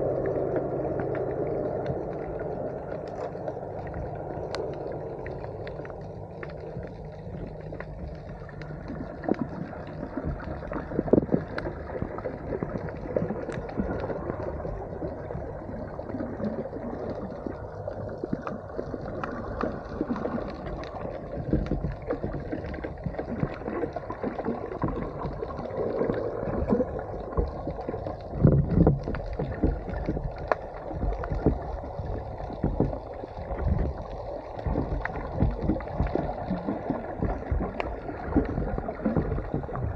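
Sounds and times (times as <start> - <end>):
underwater rush of water: 0.0 - 39.9
water gurgling: 0.0 - 39.9.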